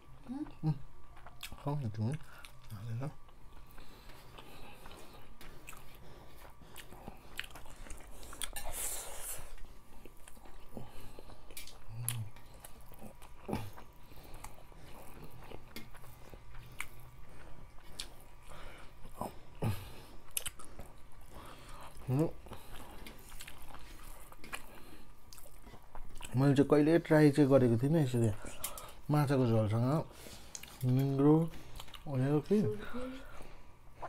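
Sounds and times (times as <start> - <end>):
chewing and smacking: 0.1 - 8.8, 9.4 - 27.0, 28.0 - 32.3.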